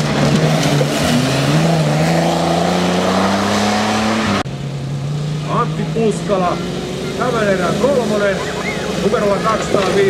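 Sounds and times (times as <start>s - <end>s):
off-road engine accelerating: 0.0s - 10.0s.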